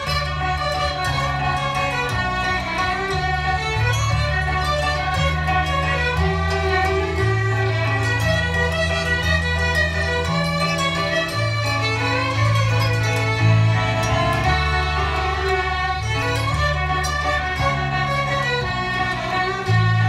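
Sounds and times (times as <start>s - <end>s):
low bass line: 0.0s - 20.0s
violins playing a waltz: 0.0s - 20.0s.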